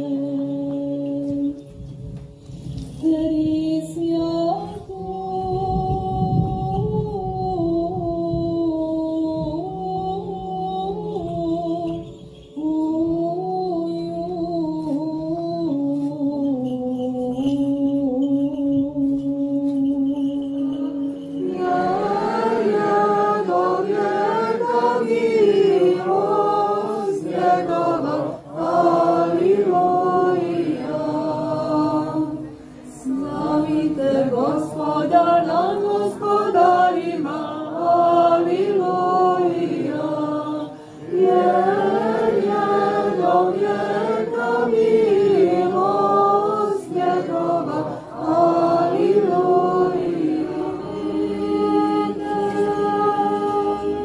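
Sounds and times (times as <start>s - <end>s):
group singing church chant: 9.2s - 54.0s.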